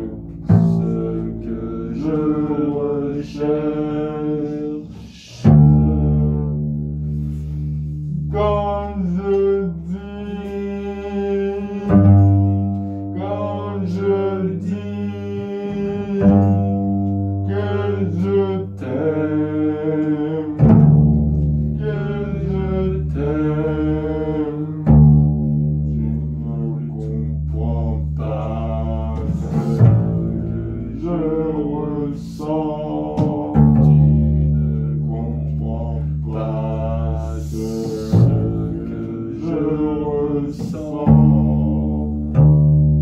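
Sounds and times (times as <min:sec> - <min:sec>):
person singing: 0:00.0 - 0:06.6, 0:08.1 - 0:20.8, 0:21.8 - 0:25.1, 0:25.8 - 0:43.0
bowed double bass: 0:00.0 - 0:43.0.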